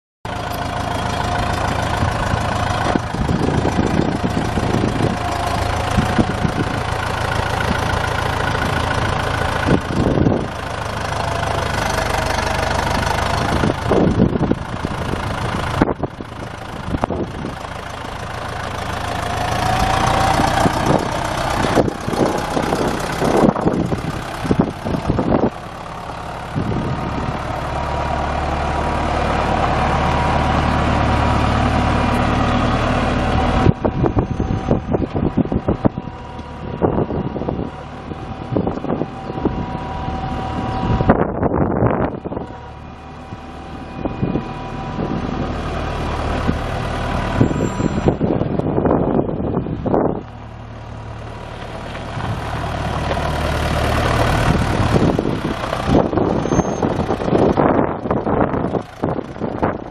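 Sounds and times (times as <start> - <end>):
tractor diesel engine running: 0.2 - 59.9.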